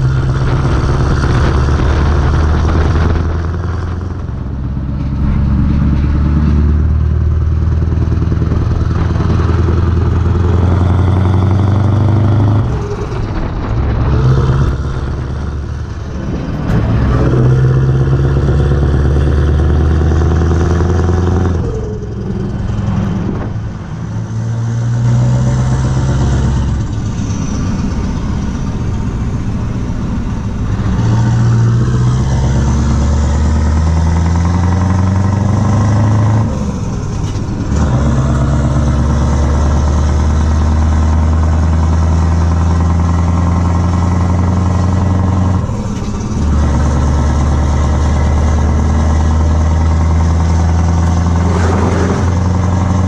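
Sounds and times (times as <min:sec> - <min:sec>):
diesel truck engine droning: 0:00.0 - 0:53.0.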